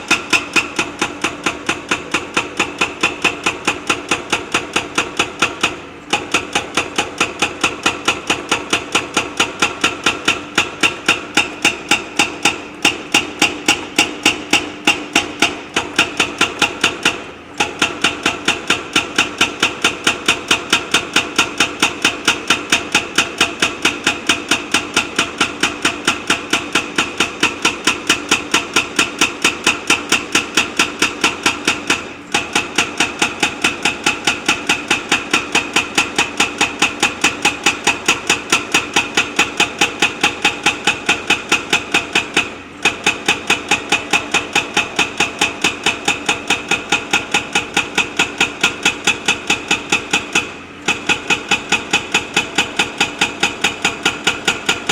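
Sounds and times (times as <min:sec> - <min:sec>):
engine running: 0:00.0 - 0:54.9
rapid hammering: 0:00.0 - 0:54.9.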